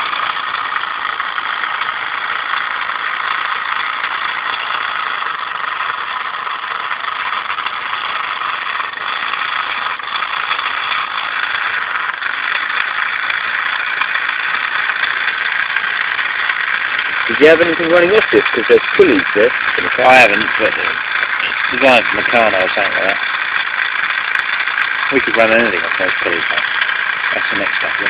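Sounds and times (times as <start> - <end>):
model steam engine hissing: 0.0 - 28.0.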